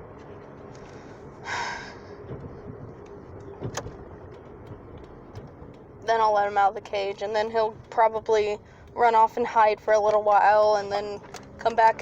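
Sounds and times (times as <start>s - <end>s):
engine and road hum: 0.0s - 12.0s.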